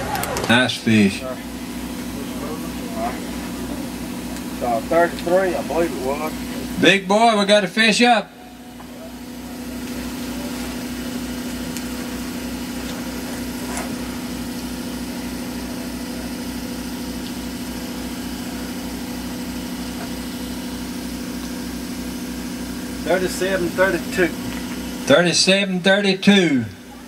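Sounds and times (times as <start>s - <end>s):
motor humming with low throb: 0.0s - 27.0s.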